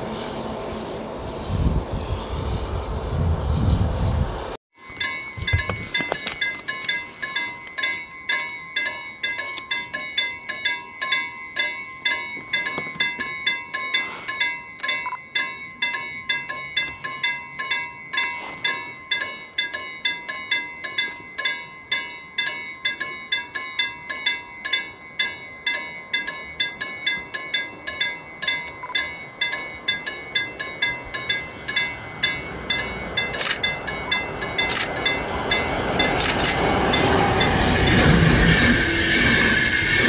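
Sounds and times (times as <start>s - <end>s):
oncoming train noise: 0.0s - 40.0s
level crossing bell ringing: 4.8s - 38.6s.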